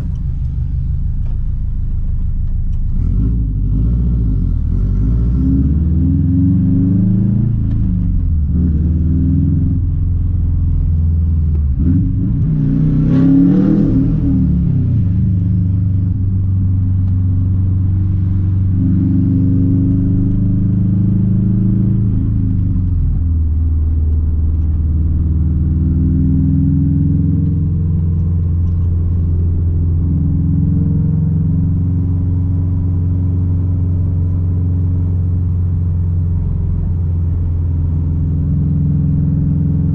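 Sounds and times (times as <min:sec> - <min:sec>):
car engine running and revving: 0:00.0 - 0:39.9.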